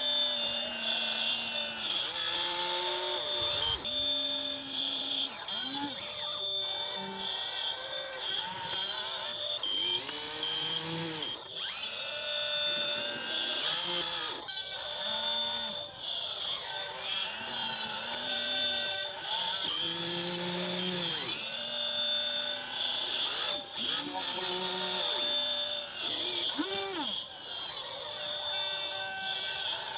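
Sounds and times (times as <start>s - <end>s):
toy excavator electric motors whining: 0.0s - 29.9s.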